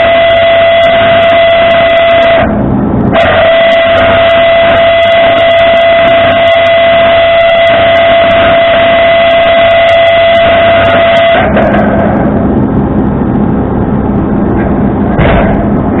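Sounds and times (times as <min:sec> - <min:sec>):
high-pitched whine: 0:00.0 - 0:16.0
tow truck engine running: 0:00.0 - 0:16.0.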